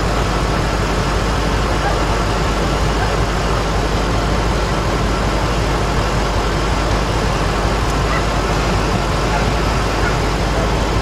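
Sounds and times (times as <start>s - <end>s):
car engine idling roughly: 0.0s - 11.0s.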